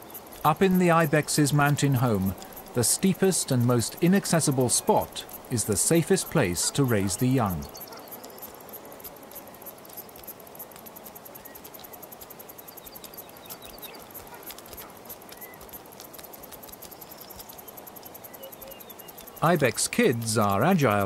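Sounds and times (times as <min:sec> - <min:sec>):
insect-like ticking: 0:00.0 - 0:21.0
steady hiss: 0:00.0 - 0:21.0.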